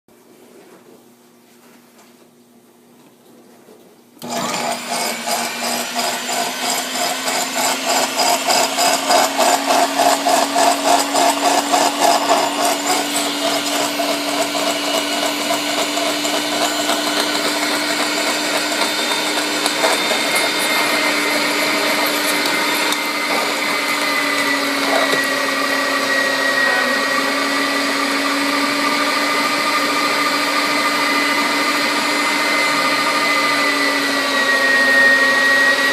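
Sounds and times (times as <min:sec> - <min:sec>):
meat grinder motor hum: 0:04.2 - 0:35.9.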